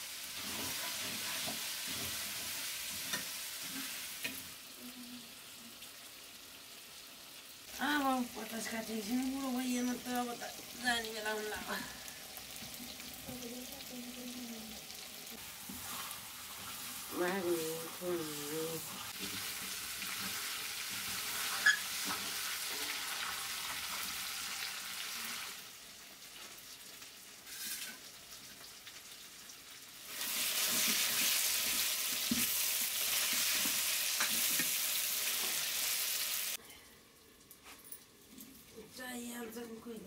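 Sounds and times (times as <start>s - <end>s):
chicken sizzling in oil: 0.0s - 37.6s.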